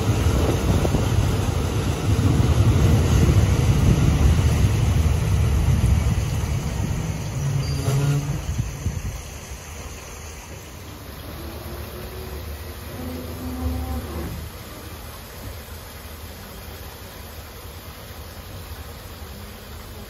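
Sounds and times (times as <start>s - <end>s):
train rumble and wind: 0.0s - 20.0s.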